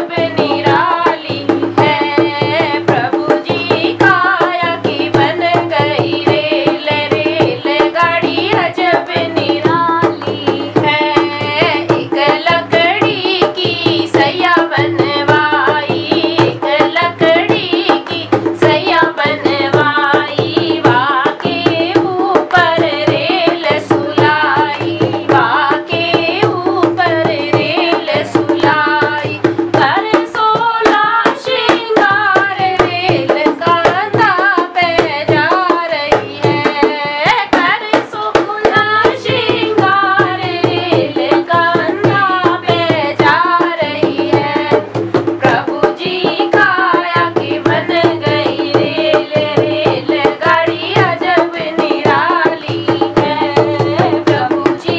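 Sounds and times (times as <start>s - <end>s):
girl singing: 0.0s - 54.9s
hand drum rhythm: 0.0s - 54.9s.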